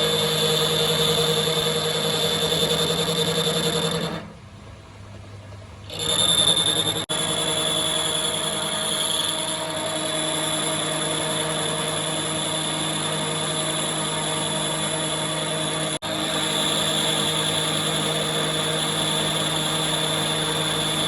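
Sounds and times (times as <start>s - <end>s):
workshop machine motor whine: 0.0s - 4.5s, 5.8s - 21.0s.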